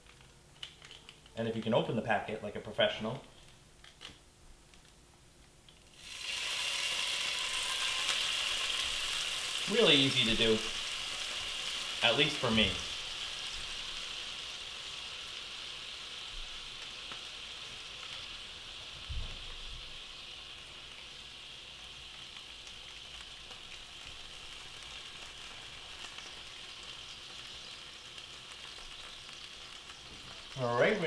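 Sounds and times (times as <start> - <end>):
vinegar sizzling in a skillet: 5.8 - 31.0.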